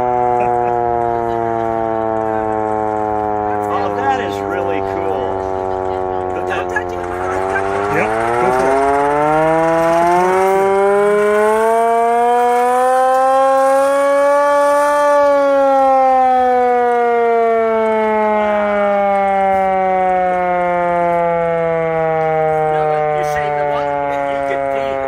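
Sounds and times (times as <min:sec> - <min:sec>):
hand-cranked air raid siren: 0:00.0 - 0:25.0.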